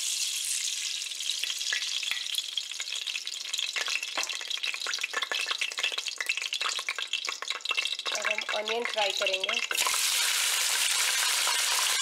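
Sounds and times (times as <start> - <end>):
oil sizzling and popping in pot: 0.0 - 12.0.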